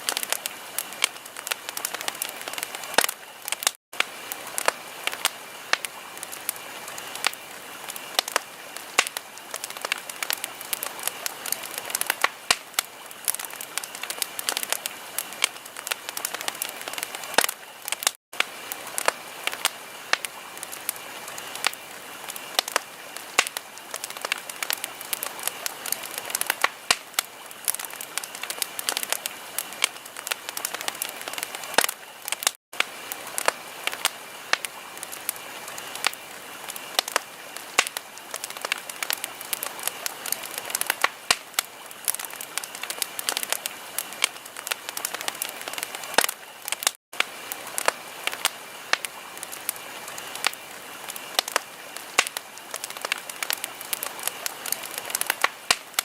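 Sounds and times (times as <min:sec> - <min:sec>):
fire crackling and popping: 0:00.0 - 0:56.0
steady fire hiss: 0:00.0 - 0:56.0.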